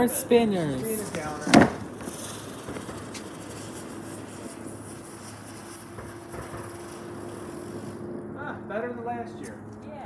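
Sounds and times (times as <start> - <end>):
firework spinner hissing: 0.0 - 8.3
faint steady whine: 0.0 - 10.0.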